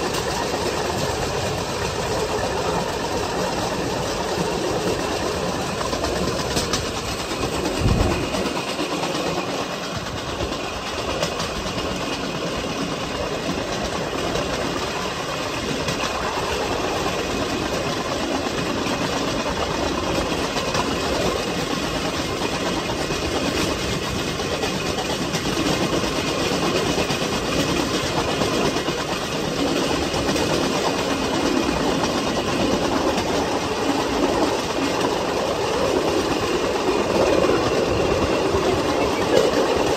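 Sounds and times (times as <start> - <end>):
steel wheels rolling on track: 0.0 - 39.9.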